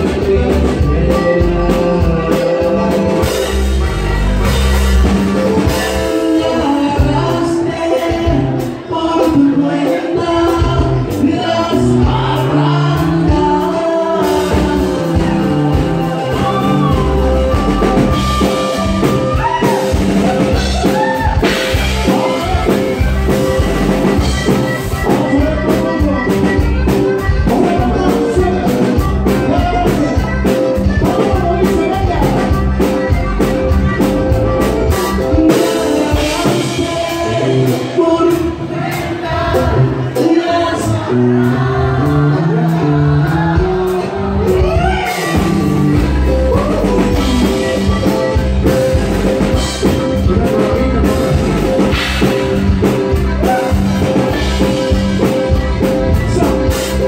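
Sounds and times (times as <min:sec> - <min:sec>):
person singing: 0:00.0 - 0:04.2, 0:05.4 - 0:57.0
accordion: 0:00.0 - 0:57.0
drum kit: 0:00.0 - 0:57.0
electric bass: 0:00.0 - 0:57.0
keyboard: 0:00.0 - 0:57.0.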